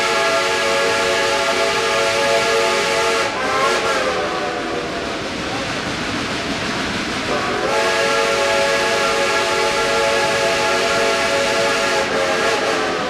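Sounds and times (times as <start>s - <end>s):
steam locomotive whistle: 0.0s - 5.0s, 7.3s - 13.0s
running train: 0.0s - 13.0s
steam hissing: 0.0s - 13.0s.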